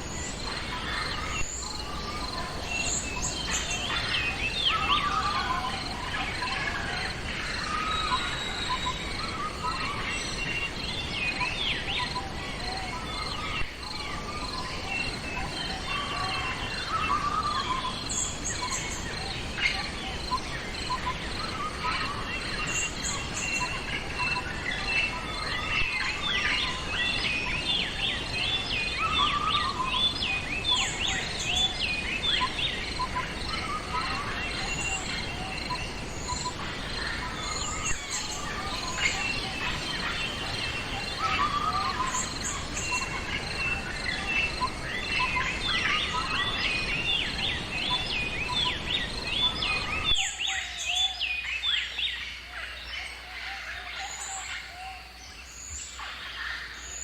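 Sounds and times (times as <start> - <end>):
insects trilling faintly: 0.0 - 57.0
outdoor background hiss: 0.0 - 57.0
songbirds chirping and warbling: 0.0 - 57.0.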